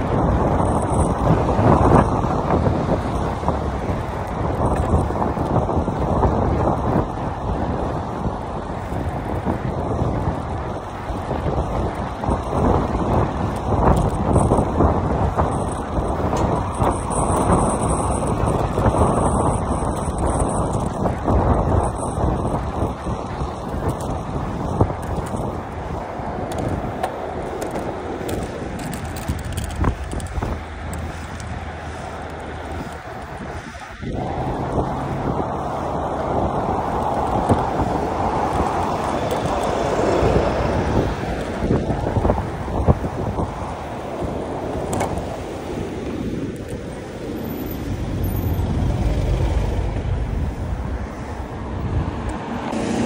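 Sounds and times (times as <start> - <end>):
bike tyres on asphalt: 0.0 - 53.0
car engines rumbling: 0.0 - 53.0
wind rush: 0.0 - 53.0.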